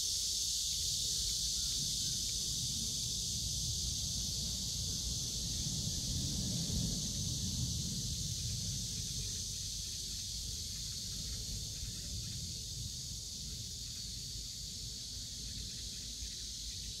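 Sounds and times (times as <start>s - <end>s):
insects hissing: 0.0s - 17.0s.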